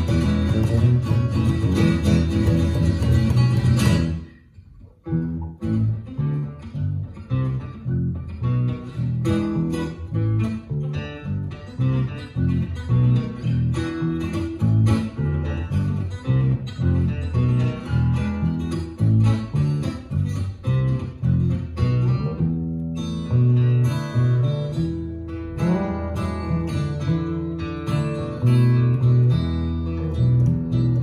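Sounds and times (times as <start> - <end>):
acoustic guitar: 0.0 - 31.0
electric bass: 0.0 - 31.0.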